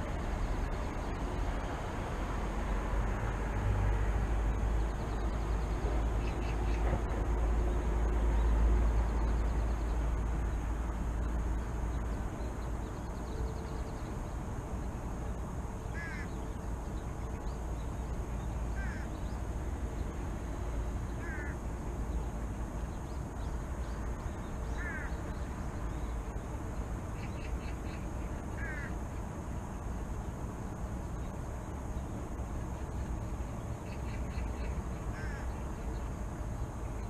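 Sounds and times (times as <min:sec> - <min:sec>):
low rumble of city noise: 0:00.0 - 0:37.0.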